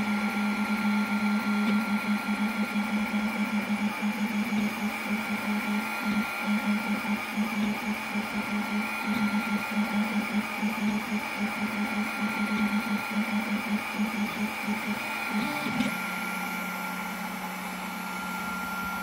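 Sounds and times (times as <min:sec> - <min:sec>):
stepper motors humming in pulses: 0:00.0 - 0:19.0.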